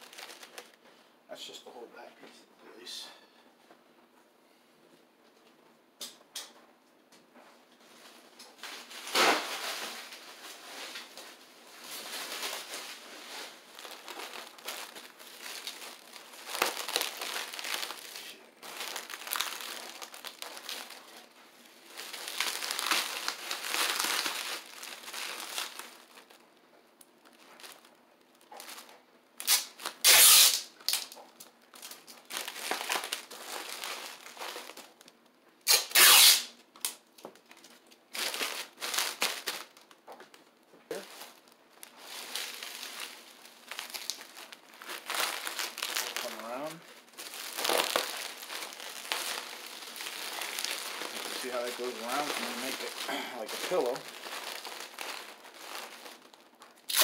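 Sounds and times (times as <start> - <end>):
bubble wrap ripping: 0.0 - 0.8, 8.6 - 26.4, 27.0 - 57.0
bubble wrap crinkling: 0.0 - 0.9, 7.8 - 57.0.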